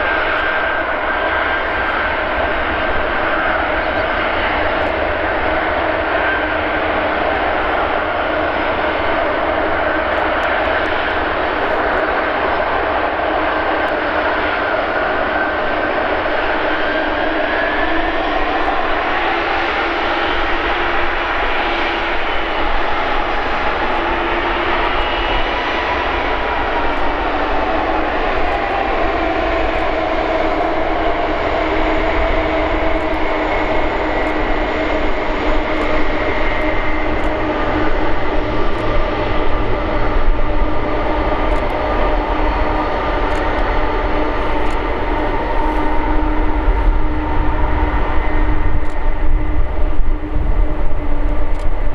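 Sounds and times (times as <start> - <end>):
jet aircraft roar: 0.0 - 51.9.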